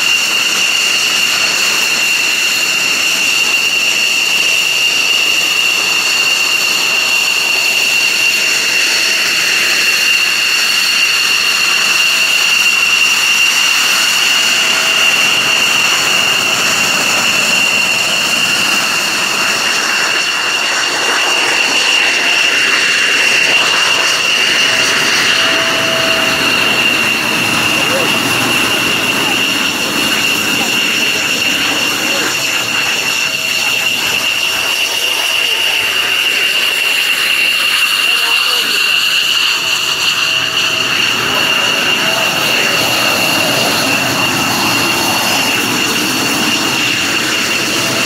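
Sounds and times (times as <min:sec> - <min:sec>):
jet engine whine and hiss: 0:00.0 - 0:48.0.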